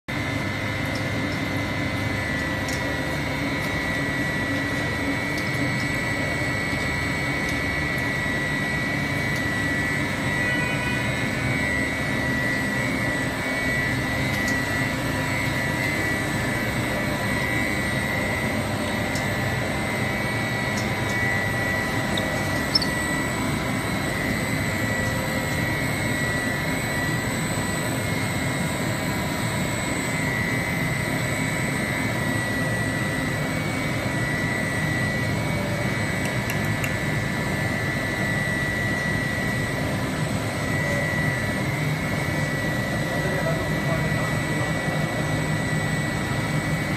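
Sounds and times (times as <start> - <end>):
high machine whine: 0.1 - 46.9
industrial machinery drone: 0.1 - 46.9.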